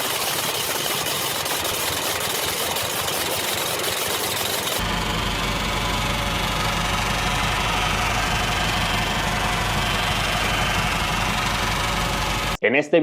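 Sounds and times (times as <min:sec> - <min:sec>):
vehicle running: 0:00.0 - 0:12.6.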